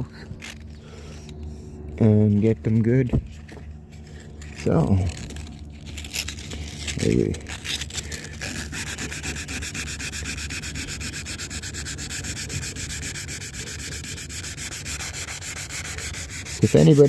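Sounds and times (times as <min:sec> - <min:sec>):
hand sanding with sandpaper: 0:00.4 - 0:17.0.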